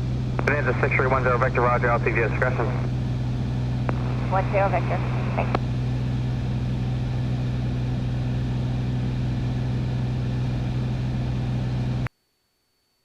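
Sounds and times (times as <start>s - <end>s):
propeller plane engine drone: 0.0s - 12.1s.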